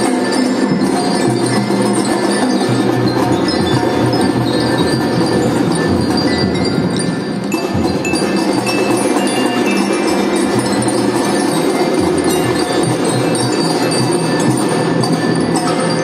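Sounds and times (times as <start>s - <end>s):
drums: 0.0s - 16.0s.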